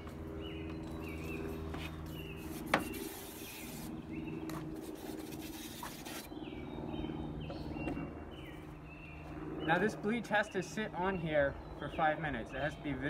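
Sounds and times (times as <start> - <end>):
birds chirping: 0.0 - 4.9, 5.7 - 13.0
steady low hum: 0.0 - 13.0.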